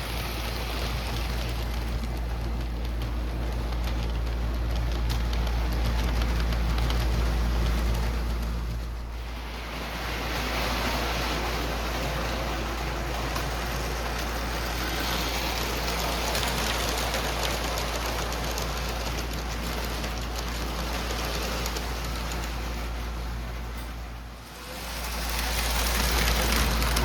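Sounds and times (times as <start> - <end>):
model train wheels clattering: 0.0 - 27.0.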